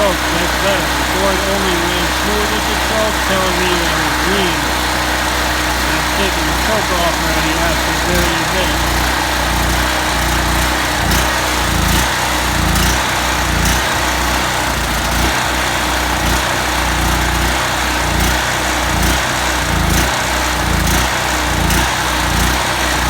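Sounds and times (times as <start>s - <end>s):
small gasoline engine running: 0.0s - 23.0s.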